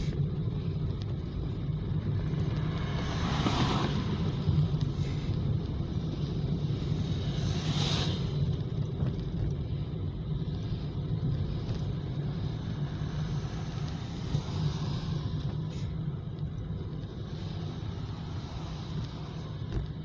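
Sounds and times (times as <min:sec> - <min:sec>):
car road rumble: 0:00.0 - 0:20.0.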